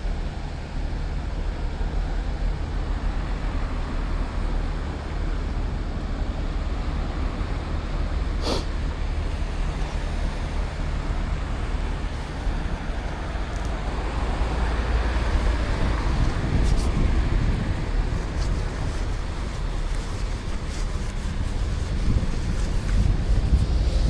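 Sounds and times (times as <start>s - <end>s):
road traffic: 0.0s - 24.0s
wind rumble on microphone: 0.0s - 24.0s.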